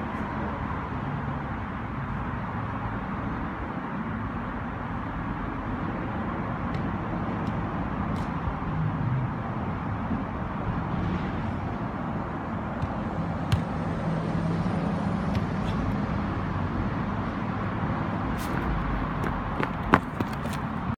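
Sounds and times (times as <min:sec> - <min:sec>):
road traffic hum: 0:00.0 - 0:20.9.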